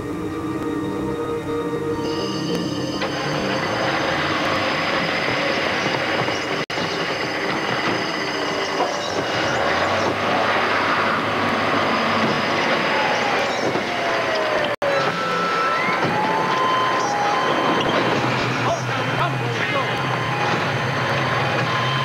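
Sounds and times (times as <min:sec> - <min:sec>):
fire alarm sounding: 0:00.0 - 0:22.0
firefighters rushing to gear: 0:03.0 - 0:22.0.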